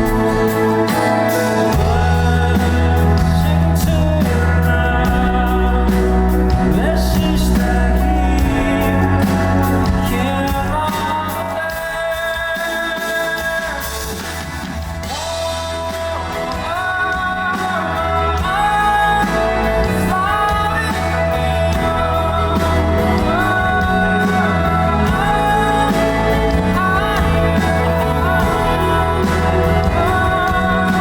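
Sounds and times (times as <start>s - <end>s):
person singing: 0.0s - 31.0s
rock band playing live: 0.0s - 31.0s.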